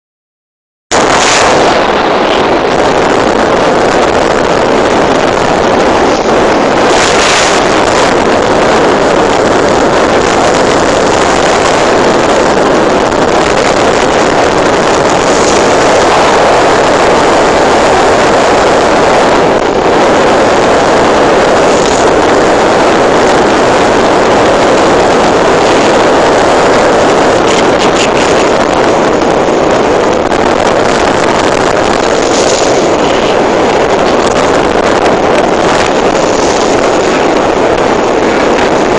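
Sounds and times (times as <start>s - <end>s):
rough sea: 0.9s - 38.9s
wind rushing: 0.9s - 38.9s.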